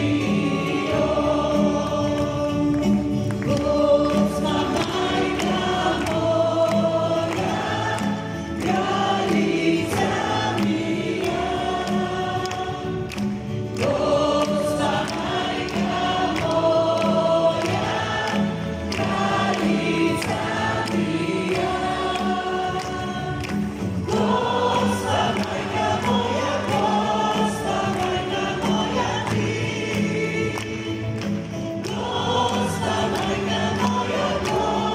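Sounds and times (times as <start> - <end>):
congregation singing a hymn: 0.0 - 34.9
worship band playing: 0.0 - 34.9.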